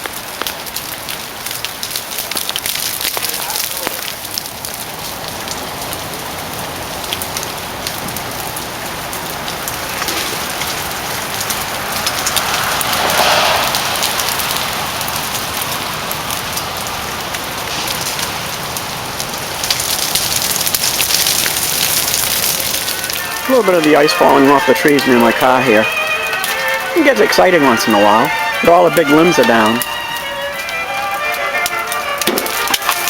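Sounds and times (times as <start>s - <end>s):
rush of falling ice: 0.0s - 6.0s, 9.2s - 33.0s
ice ticking off branches: 0.0s - 6.2s, 7.0s - 33.0s.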